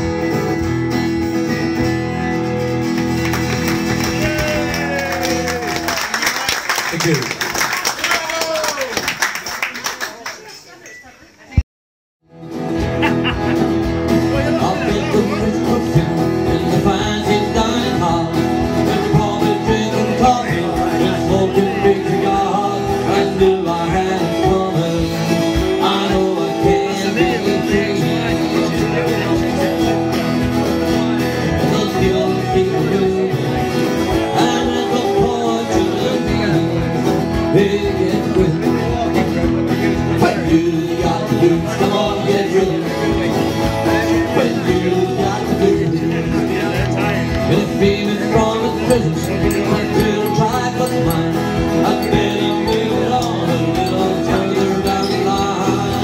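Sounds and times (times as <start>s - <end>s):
plucked strings music with beat: 0.0s - 4.9s, 12.3s - 56.0s.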